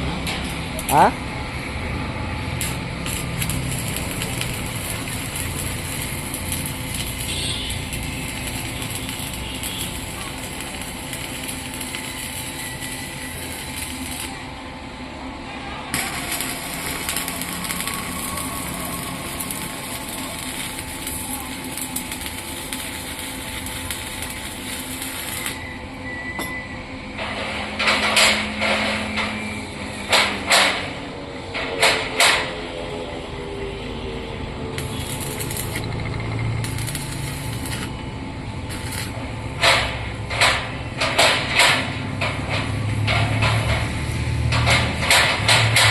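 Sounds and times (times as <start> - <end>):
hissing workshop noise: 0.0 - 45.9.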